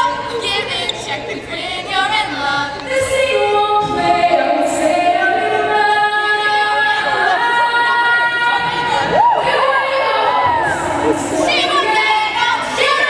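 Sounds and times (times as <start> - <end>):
girls singing a cappella: 0.0 - 13.0.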